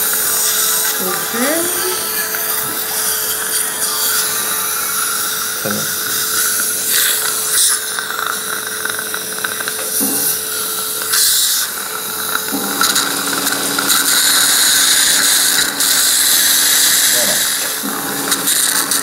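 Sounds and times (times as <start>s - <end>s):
surgical drill motor whine: 0.0s - 19.0s.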